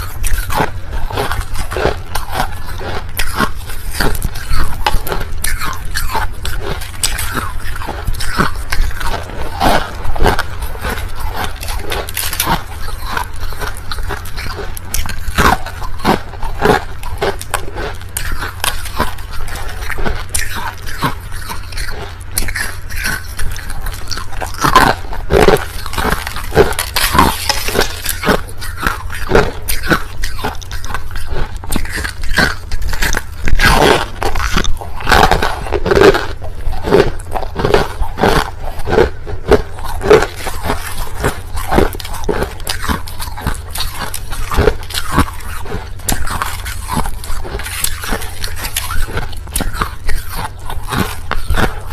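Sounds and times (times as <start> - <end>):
person chewing crushed ice: 0.0 - 51.9.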